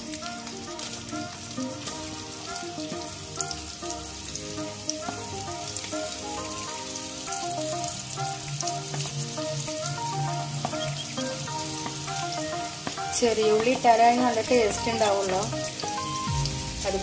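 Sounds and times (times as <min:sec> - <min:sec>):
background music with melody: 0:00.0 - 0:17.0
onions sizzling in oil: 0:00.0 - 0:17.0.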